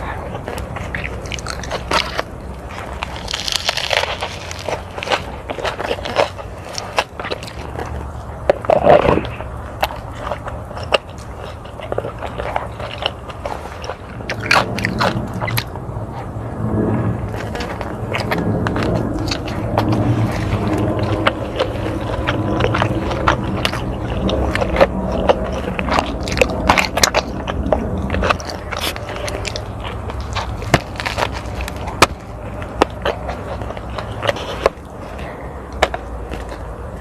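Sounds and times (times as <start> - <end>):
crunchy chewing: 0.0 - 37.0
low rumble: 0.0 - 37.0.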